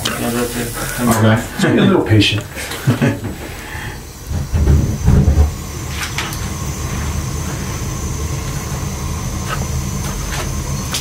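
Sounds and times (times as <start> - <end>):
boiler burners rumbling: 0.0 - 11.0.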